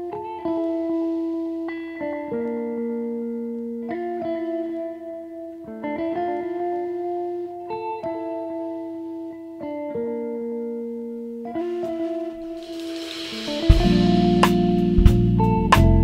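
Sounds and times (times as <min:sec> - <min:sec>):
plucked guitar chords: 0:00.0 - 0:16.0.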